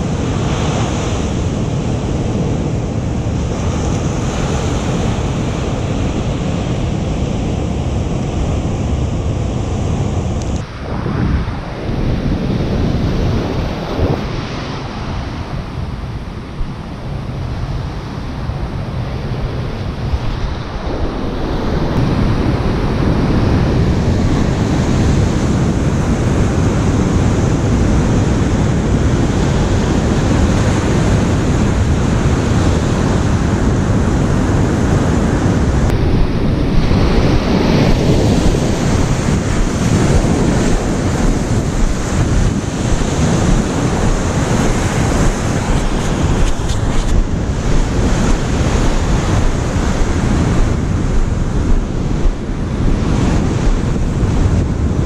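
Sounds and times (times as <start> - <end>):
ocean surf washing on beach: 0.0 - 55.0
wind buffeting microphone: 0.0 - 55.0.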